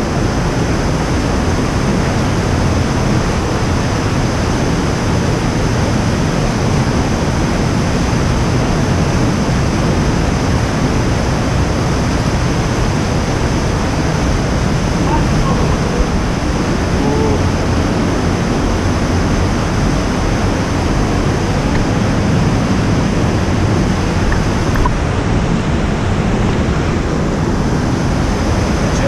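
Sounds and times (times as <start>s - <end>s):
river rushing down cascade: 0.0s - 29.0s.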